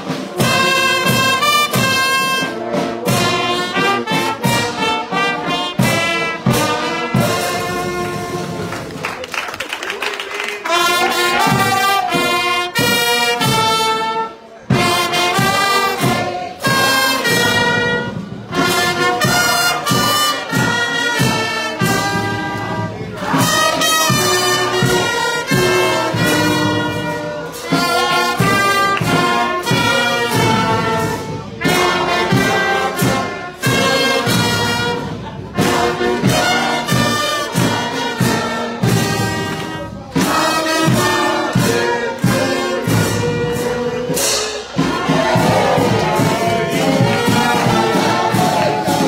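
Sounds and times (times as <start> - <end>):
brass band playing held chords: 0.0 - 49.0.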